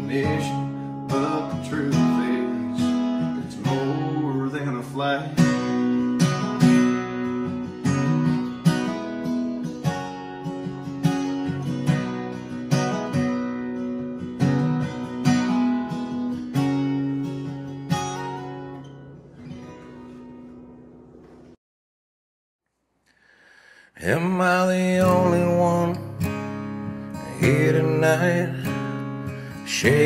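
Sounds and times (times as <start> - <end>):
acoustic guitar strumming chords: 0.0 - 21.6, 24.0 - 30.0.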